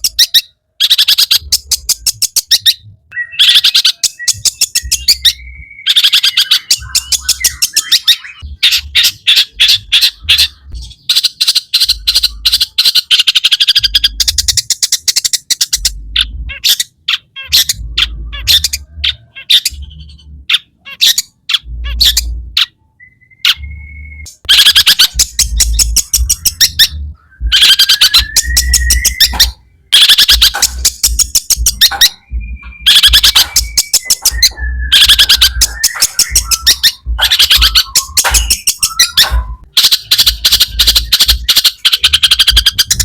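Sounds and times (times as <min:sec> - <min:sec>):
shrike chattering song: 0:00.0 - 0:43.0.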